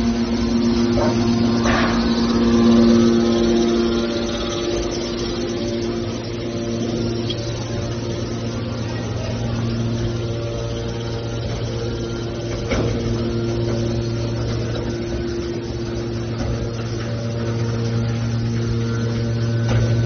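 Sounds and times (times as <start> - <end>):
hydraulic power unit humming: 0.0 - 20.0.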